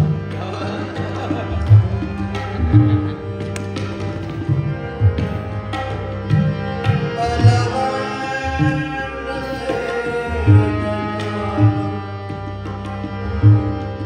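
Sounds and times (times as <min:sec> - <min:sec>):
harmonium sustained chords: 0:00.0 - 0:14.0
tabla deep bass strokes: 0:00.0 - 0:14.0.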